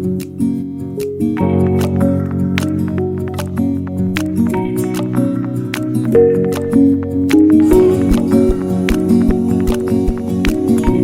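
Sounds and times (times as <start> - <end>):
plucked guitar: 0.0 - 11.0
soft steady beat: 1.0 - 11.0.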